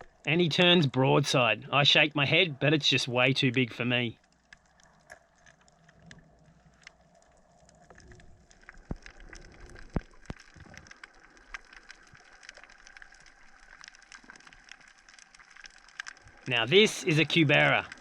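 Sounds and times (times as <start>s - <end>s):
underwater reef crackle: 0.0s - 18.0s.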